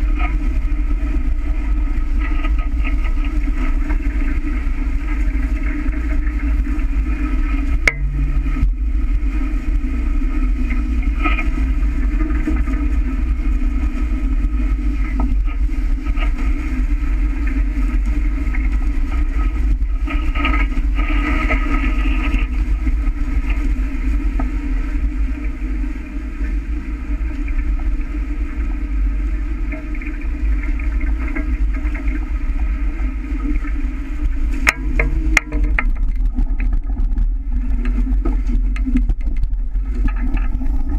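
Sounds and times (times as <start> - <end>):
water splashing along hull: 0.0 - 40.9
wind rumbling on microphone: 0.0 - 40.9.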